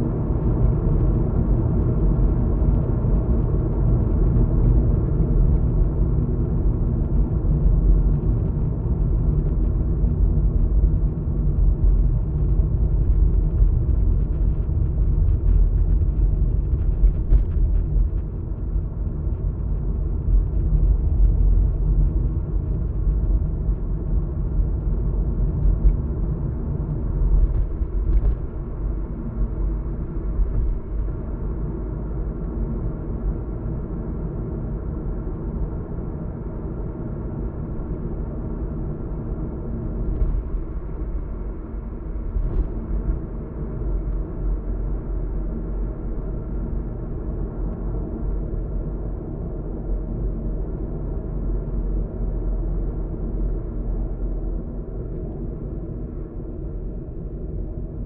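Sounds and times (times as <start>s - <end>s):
car road and engine rumble: 0.1s - 58.0s.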